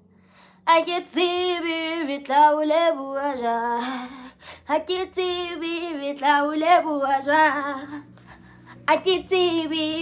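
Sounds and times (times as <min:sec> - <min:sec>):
woman singing: 0:00.6 - 0:10.0.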